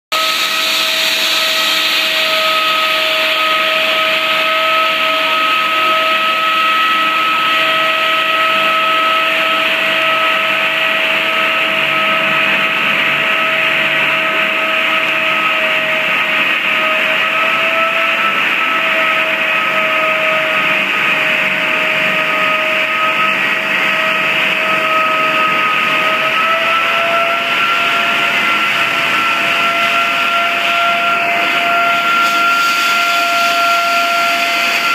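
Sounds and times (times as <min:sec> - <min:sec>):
ceiling blaster rushing with whine: 0:00.2 - 0:34.9.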